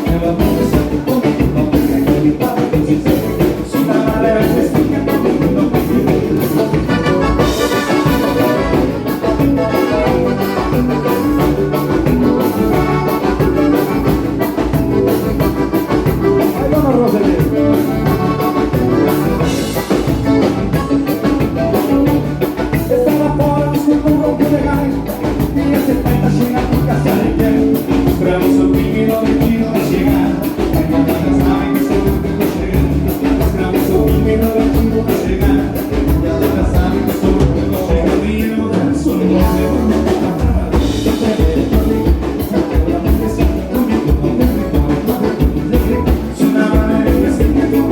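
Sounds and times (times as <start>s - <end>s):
drums: 0.0s - 47.9s
live band dance music: 0.0s - 47.9s
person singing: 0.0s - 47.9s.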